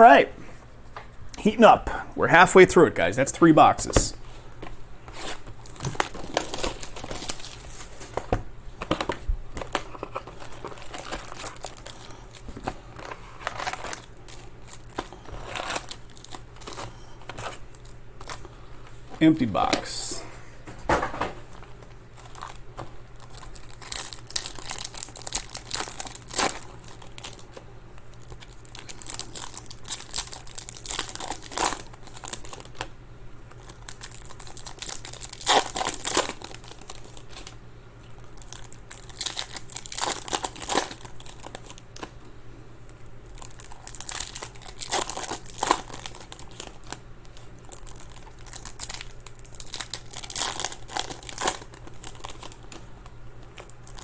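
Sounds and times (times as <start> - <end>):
foil wrappers crinkling and tearing: 5.1 - 20.0, 21.4 - 42.2, 42.9 - 54.0.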